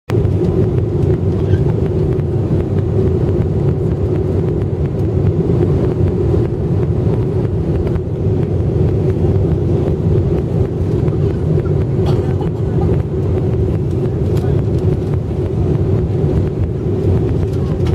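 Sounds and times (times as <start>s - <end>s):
airliner cabin engine drone: 0.1s - 17.9s.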